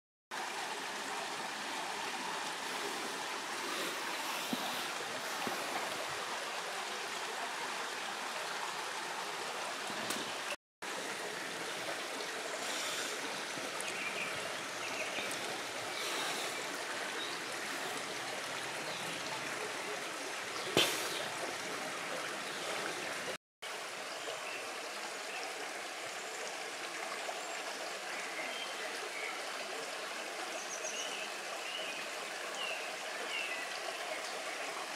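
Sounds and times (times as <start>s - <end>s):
flowing stream: 0.3s - 34.9s.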